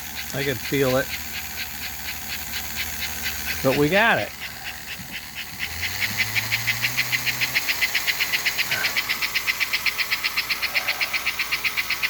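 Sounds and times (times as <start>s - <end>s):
model steam locomotive chuffing: 0.0s - 12.0s.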